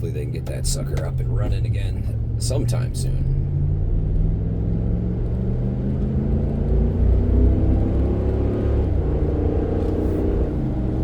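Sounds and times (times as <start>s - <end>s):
car engine: 0.0s - 11.0s
road rumble: 0.0s - 11.0s.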